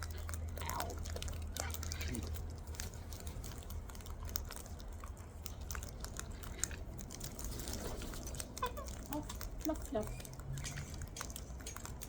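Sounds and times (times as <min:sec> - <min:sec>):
cockatoos crunching food: 0:00.0 - 0:12.0.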